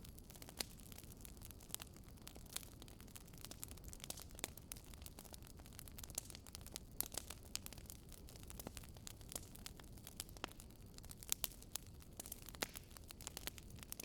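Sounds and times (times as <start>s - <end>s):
low rumble of burning logs: 0.0s - 14.0s
wood fire crackling: 0.0s - 14.0s.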